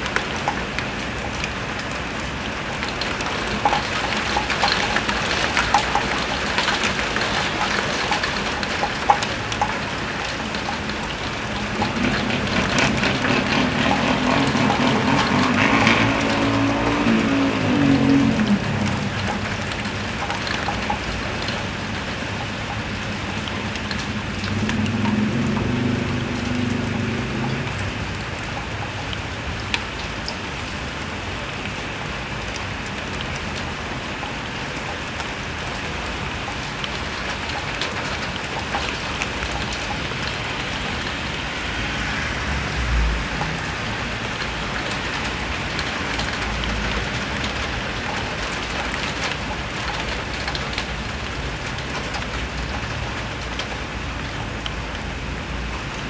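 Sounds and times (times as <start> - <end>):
heavy rain spattering: 0.0 - 56.0.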